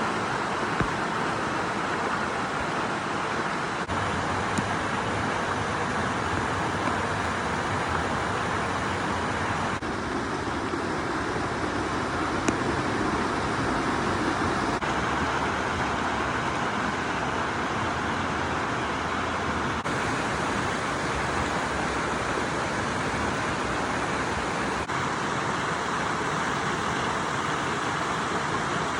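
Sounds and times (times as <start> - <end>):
stream water flowing: 0.0 - 28.9.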